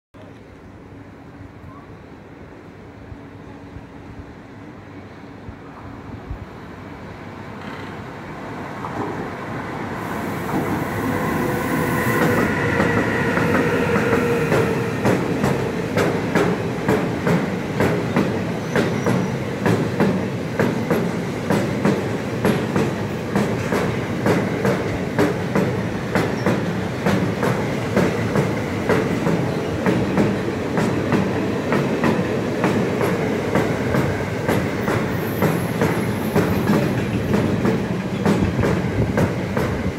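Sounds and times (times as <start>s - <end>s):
freight train passing: 0.3s - 39.9s
train whine: 0.3s - 39.9s.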